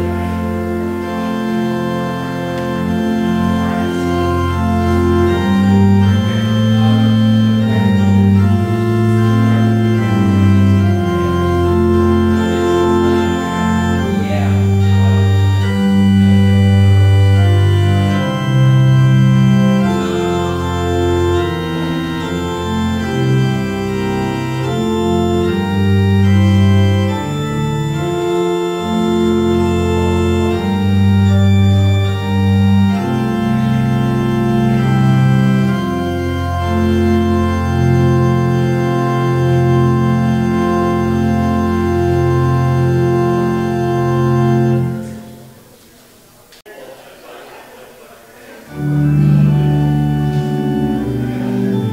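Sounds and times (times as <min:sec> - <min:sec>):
organ playing slow chords: 0:00.0 - 0:46.5, 0:48.6 - 0:51.9.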